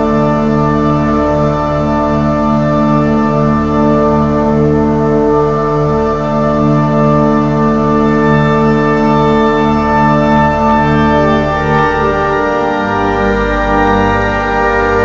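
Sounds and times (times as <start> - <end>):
church organ chords: 0.0 - 15.0.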